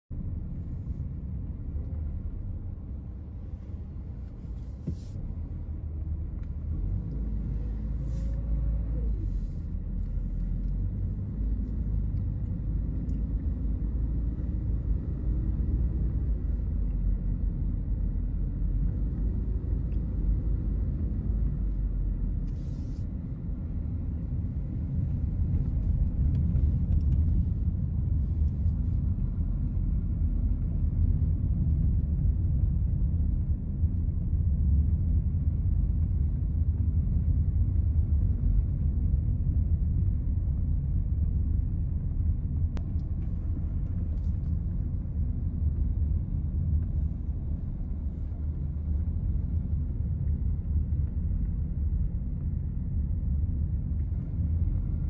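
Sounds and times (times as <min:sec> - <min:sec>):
car cabin road rumble: 0:00.1 - 0:55.0.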